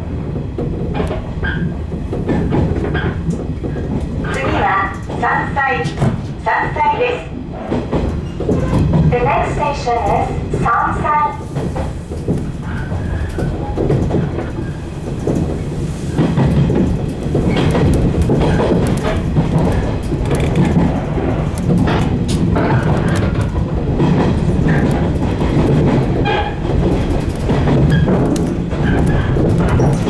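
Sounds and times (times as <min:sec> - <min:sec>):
train rumbling on rails: 0:00.0 - 0:30.0
wheels clacking over rail joints: 0:00.0 - 0:30.0.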